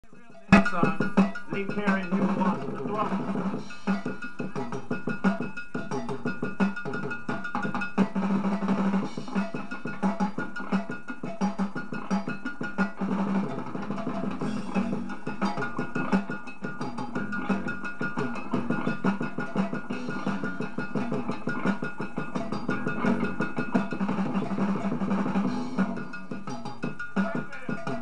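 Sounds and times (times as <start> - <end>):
drum kit beat: 0.0 - 28.0
rock band playing: 0.0 - 28.0.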